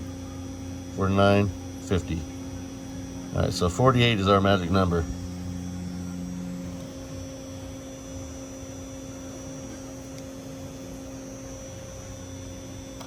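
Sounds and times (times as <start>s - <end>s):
electrical hum: 0.0s - 13.0s
faint high whine: 0.0s - 13.0s
lower tone: 0.0s - 13.0s.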